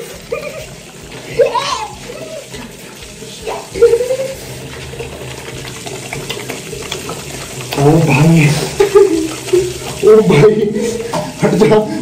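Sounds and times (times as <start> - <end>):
hands scrubbing soap: 0.0 - 12.0
tap water running into sink: 0.0 - 12.0.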